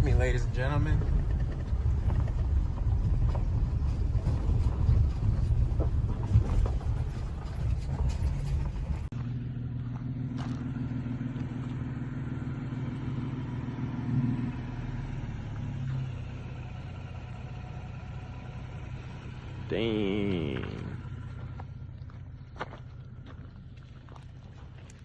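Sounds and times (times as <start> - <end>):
clattering rattling road noise: 0.0 - 25.0
truck engine running: 0.0 - 25.0.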